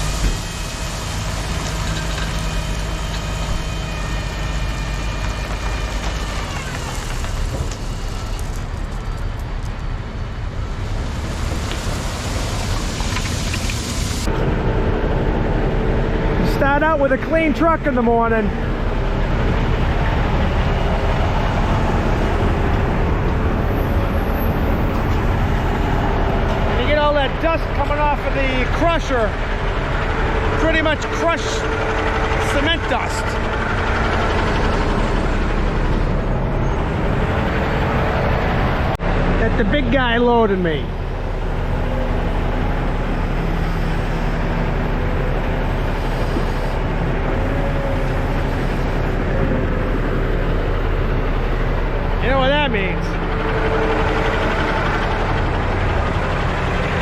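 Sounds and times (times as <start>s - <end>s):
diesel dump truck rumbling: 0.0s - 57.0s.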